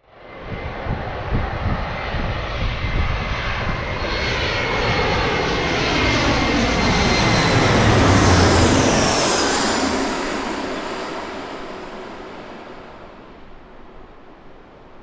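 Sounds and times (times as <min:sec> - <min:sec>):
jet engines roaring: 0:00.7 - 0:15.0.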